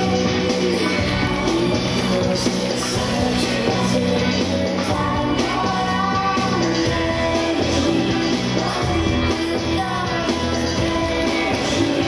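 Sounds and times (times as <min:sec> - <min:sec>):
band playing: 0:00.0 - 0:12.0
person singing: 0:00.0 - 0:12.0.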